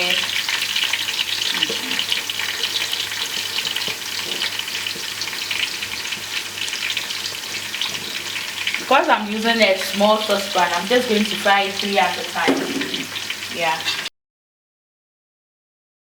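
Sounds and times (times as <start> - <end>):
chicken frying in hot oil: 0.0 - 14.1.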